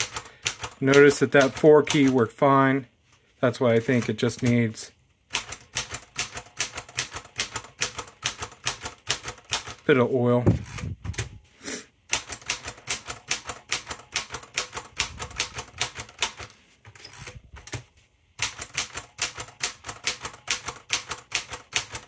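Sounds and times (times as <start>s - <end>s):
manual typewriter typing: 0.0s - 2.4s, 3.8s - 11.3s, 12.1s - 17.8s, 18.4s - 22.0s.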